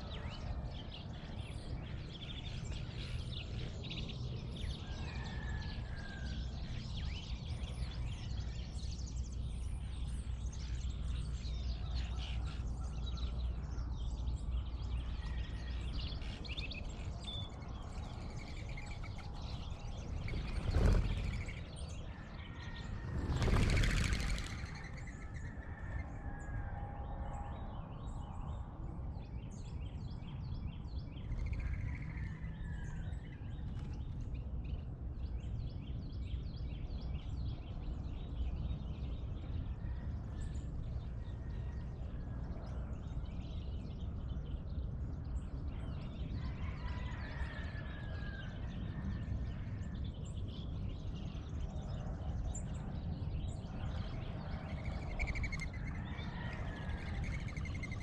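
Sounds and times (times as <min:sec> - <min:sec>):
songbirds chirping and calling: 0:00.0 - 0:58.0.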